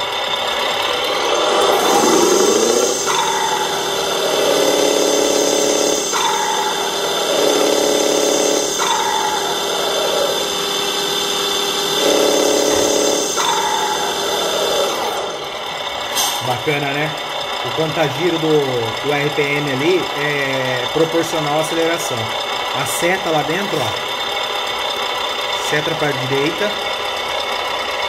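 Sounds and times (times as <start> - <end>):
simulated truck engine revving: 0.0 - 28.0.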